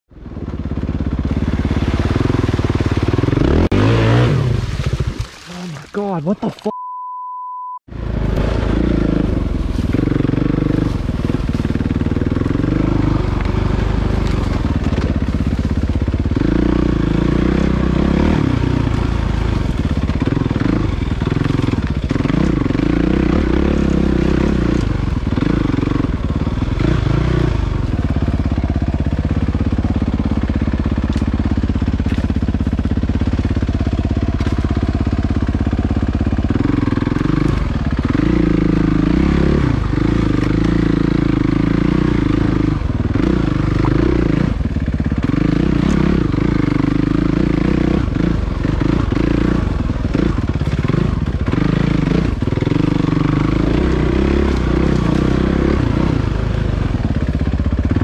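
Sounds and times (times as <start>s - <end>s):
dirt bike engine revving: 0.3s - 5.6s, 7.9s - 58.0s.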